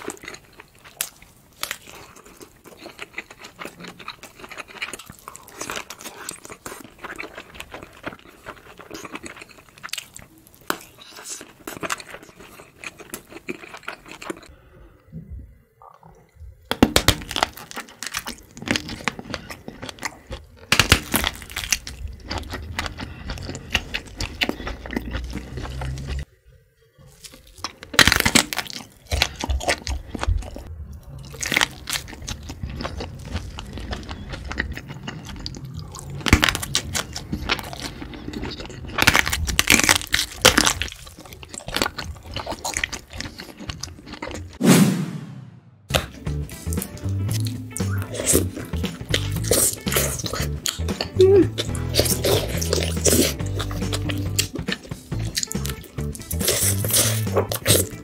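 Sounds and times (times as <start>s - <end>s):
sausage casing crunching: 0.0s - 14.5s, 16.7s - 26.3s, 27.0s - 44.6s, 45.9s - 58.0s
wet chewing: 0.0s - 14.6s, 17.1s - 26.3s, 27.0s - 44.6s, 45.9s - 58.0s.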